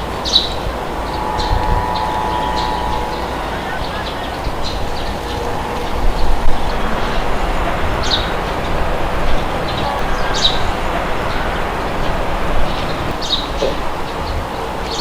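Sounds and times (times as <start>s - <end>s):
wind rushing: 0.0s - 14.5s.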